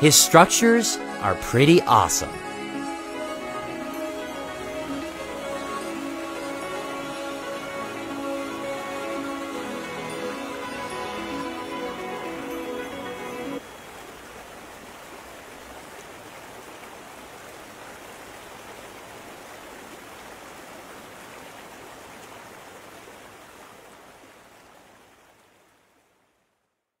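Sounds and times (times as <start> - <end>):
river water flowing over rocks: 0.0 - 26.5.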